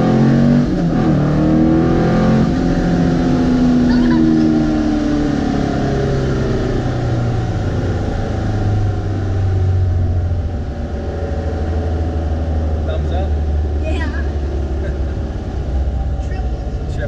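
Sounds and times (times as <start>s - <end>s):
car engine from inside cabin: 0.0s - 17.0s.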